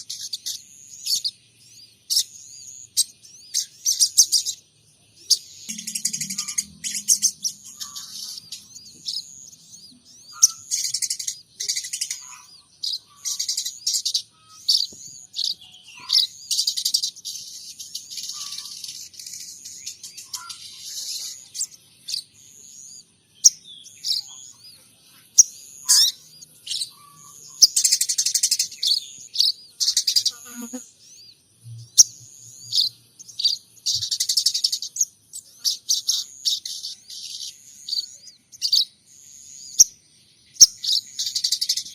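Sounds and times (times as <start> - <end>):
songbird chirping and trilling: 0.0 - 41.9.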